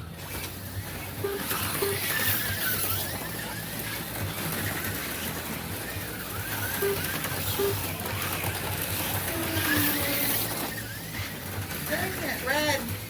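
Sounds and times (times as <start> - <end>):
slot car motors whining: 0.0 - 13.0.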